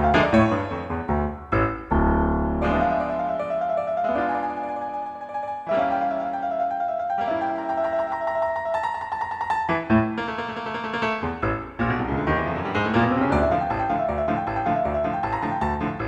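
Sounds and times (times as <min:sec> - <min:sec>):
silent film style piano chords: 0:00.0 - 0:16.0.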